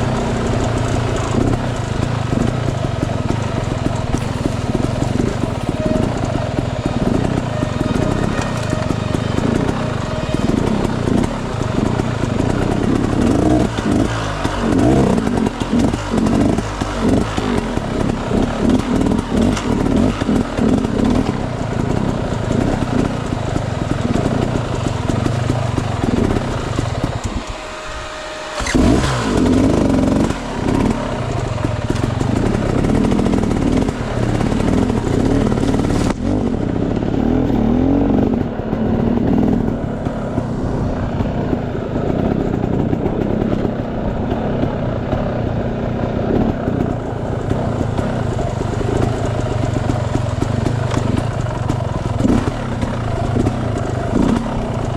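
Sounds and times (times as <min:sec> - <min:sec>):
motorcycle engine: 0:00.0 - 0:54.9.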